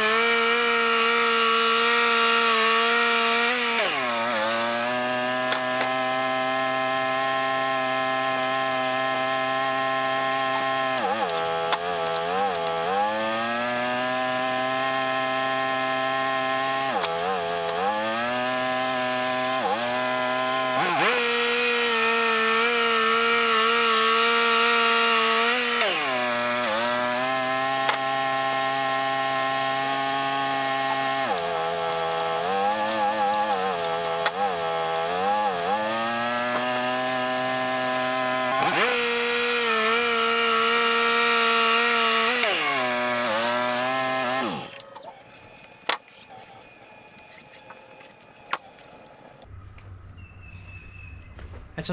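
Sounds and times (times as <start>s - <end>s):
band blade cutting log: 0.0s - 49.5s
sawmill engine running: 0.0s - 49.5s.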